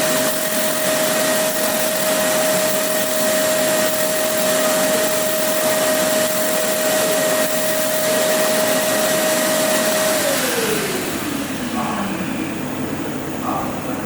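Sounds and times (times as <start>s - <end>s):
fan motor whine: 0.0s - 14.0s.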